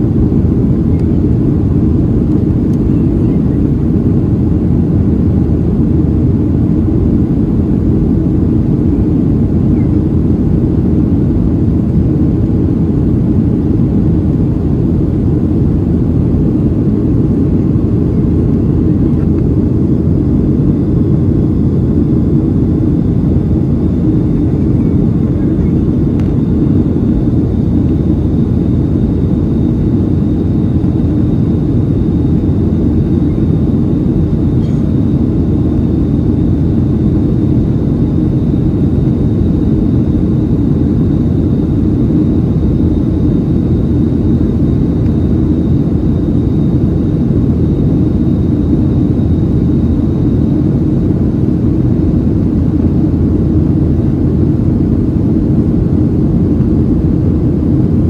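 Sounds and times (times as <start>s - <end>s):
airplane cabin engine rumble: 0.0s - 58.0s
faint high whine: 0.0s - 58.0s.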